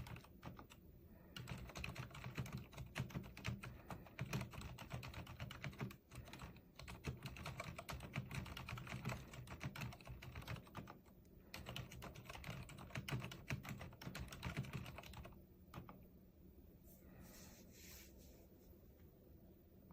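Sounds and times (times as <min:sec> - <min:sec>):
typing on mechanical keyboard: 0:00.0 - 0:16.0.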